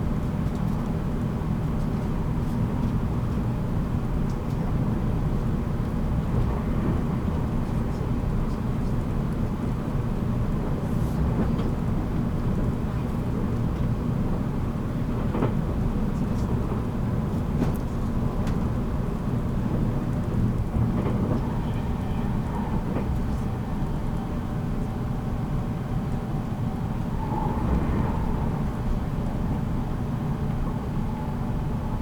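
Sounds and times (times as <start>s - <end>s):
train wheels rumbling: 4.5s - 32.0s.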